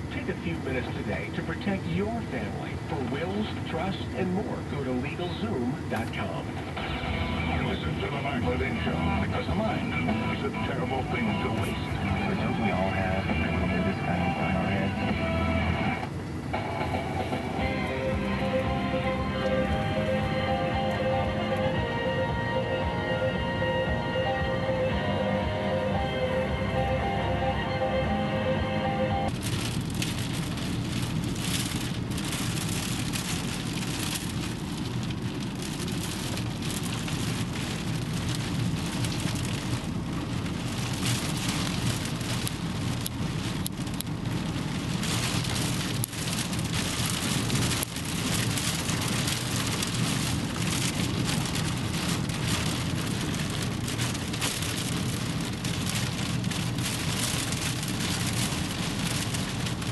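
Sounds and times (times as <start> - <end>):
low wind rumble: 0.0 - 59.9
rain: 0.0 - 59.9.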